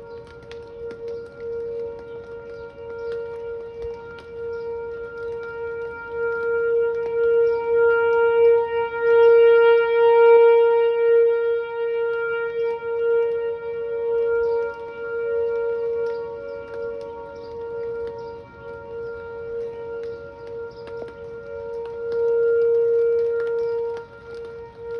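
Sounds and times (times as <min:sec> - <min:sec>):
tornado siren steady tone: 0:00.0 - 0:24.9.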